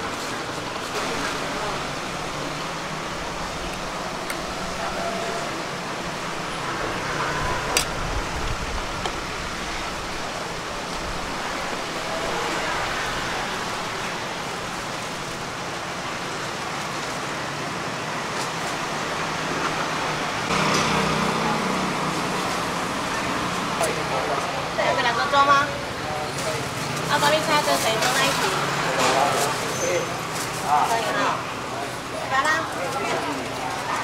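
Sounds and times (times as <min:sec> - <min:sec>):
traffic hum: 0:00.0 - 0:34.0.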